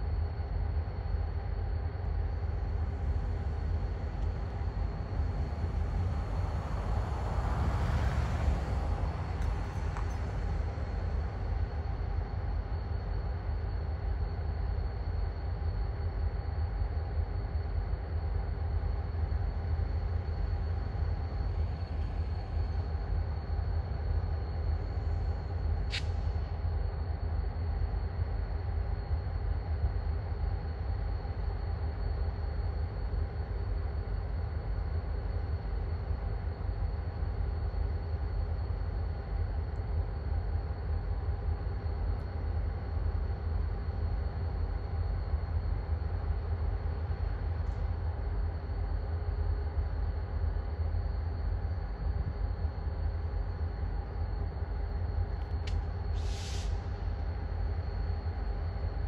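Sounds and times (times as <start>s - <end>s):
faint even hum: 0.0s - 59.0s
diesel locomotive rumble: 1.9s - 15.6s, 18.0s - 29.2s, 30.1s - 59.0s.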